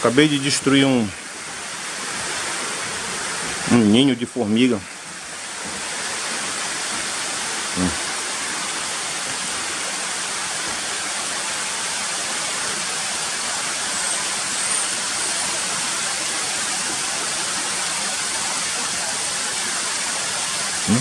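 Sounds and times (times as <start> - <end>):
rainfall hiss: 0.0 - 21.0.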